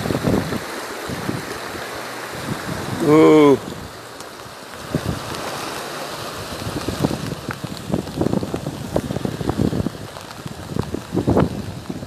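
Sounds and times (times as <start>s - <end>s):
rain hissing: 0.0s - 12.0s
wind buffeting microphone: 0.0s - 12.0s.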